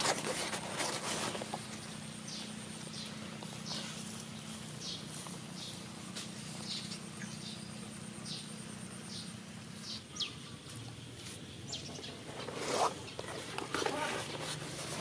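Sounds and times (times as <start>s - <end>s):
low background hum: 0.0s - 15.0s
small birds chirping: 0.5s - 15.0s.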